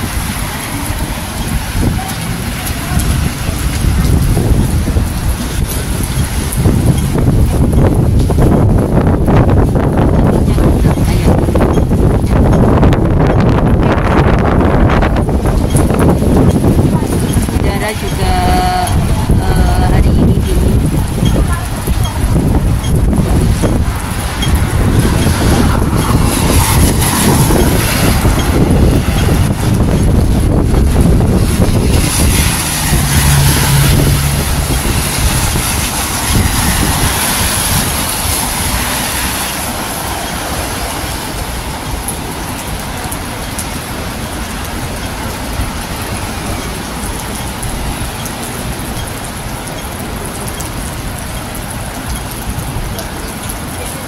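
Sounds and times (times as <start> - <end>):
traffic on wet road: 0.0 - 54.0
wind rumbling on microphone: 0.0 - 54.0.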